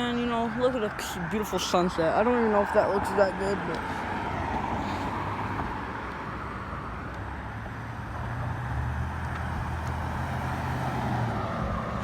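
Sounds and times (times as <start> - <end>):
road traffic noise: 0.0 - 12.0
vehicle engine hum: 0.0 - 12.0.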